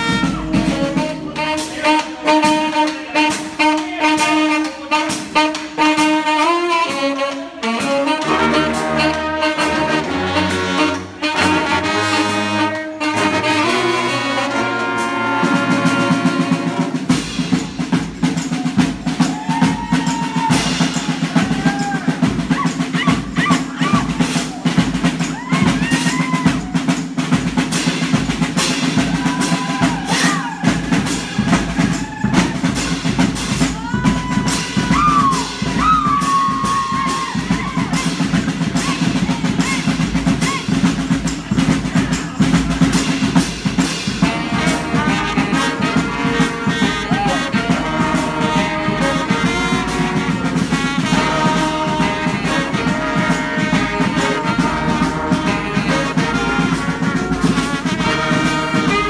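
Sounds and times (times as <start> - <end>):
brass horn section: 0.0 - 59.0
snare and bass drum: 0.0 - 59.0.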